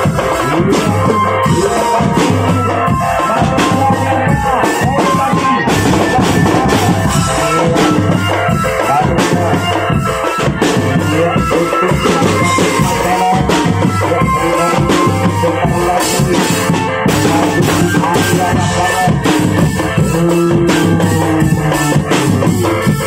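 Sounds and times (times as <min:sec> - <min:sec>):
keyboard melody over loudspeaker: 0:00.0 - 0:23.0
marching drums beating: 0:00.0 - 0:23.0.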